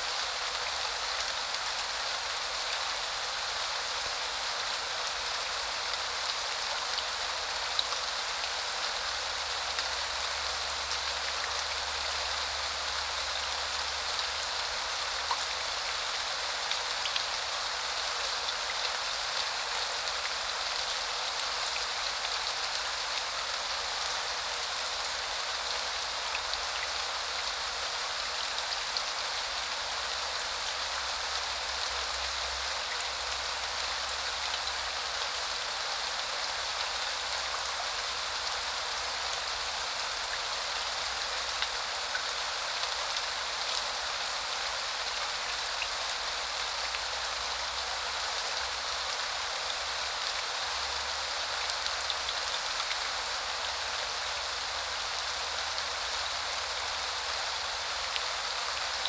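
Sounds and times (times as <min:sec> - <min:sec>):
rain on hard surfaces: 0:00.0 - 0:59.0.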